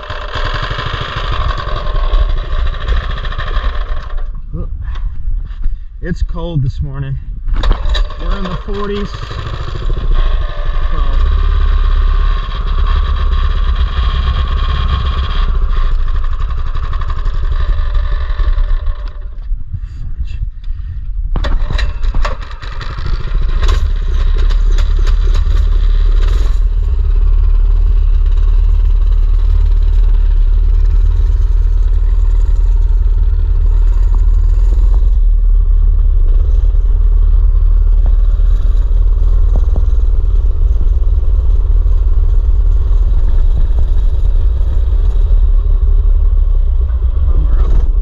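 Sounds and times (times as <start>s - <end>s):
small petrol engine running: 0.0s - 5.0s, 7.5s - 19.6s, 21.4s - 48.0s
rattling and scraping clatter: 0.0s - 6.0s, 7.4s - 48.0s
heavy low rumble: 0.0s - 48.0s.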